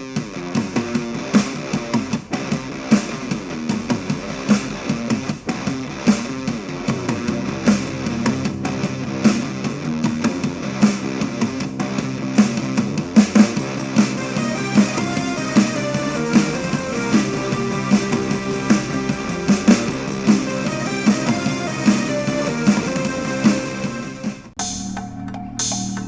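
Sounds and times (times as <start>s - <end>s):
punk rock song over speaker: 0.0s - 25.0s.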